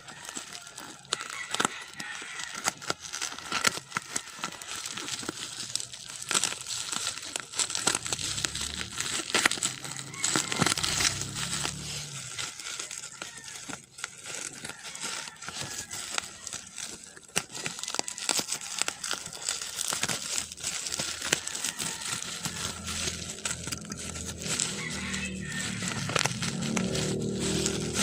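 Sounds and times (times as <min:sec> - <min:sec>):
plastic crinkling and rustling: 0:00.0 - 0:28.0.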